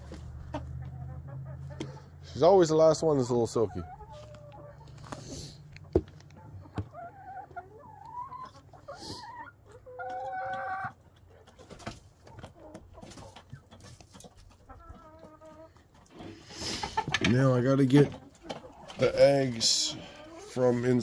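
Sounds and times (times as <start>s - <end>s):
hens clucking and calling: 0.0s - 21.0s.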